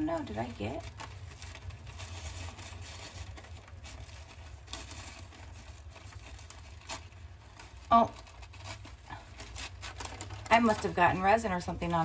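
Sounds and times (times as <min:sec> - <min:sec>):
paper napkin rustling: 0:00.0 - 0:12.0.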